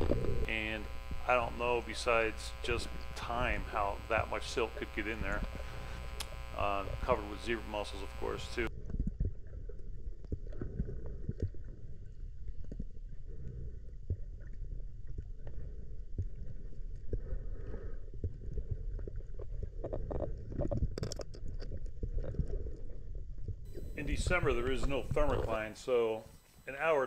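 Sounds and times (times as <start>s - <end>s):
muffled underwater rumble: 0.0s - 26.2s.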